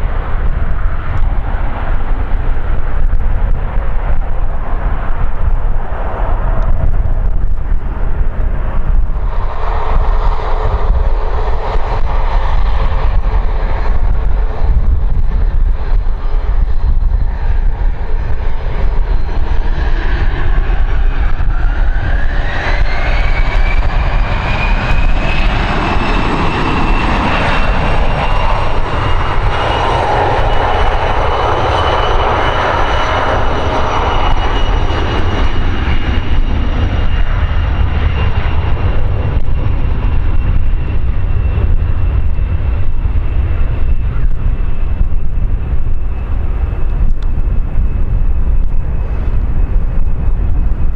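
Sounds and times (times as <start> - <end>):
jet engine roar: 0.0 - 50.9
jet turbine whine: 0.0 - 50.9.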